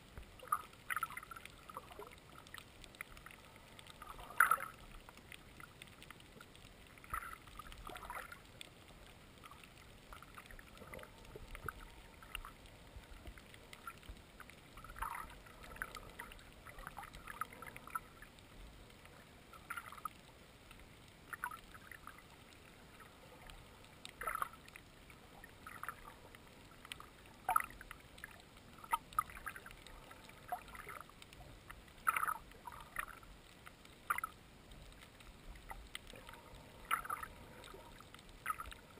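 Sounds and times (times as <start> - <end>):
faint underwater hiss: 0.0 - 38.9
short clicks and crackles: 0.0 - 38.9.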